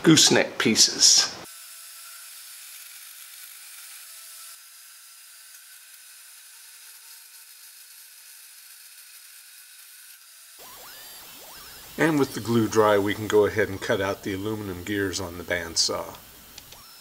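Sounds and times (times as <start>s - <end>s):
band saw cutting steel: 1.8s - 17.0s.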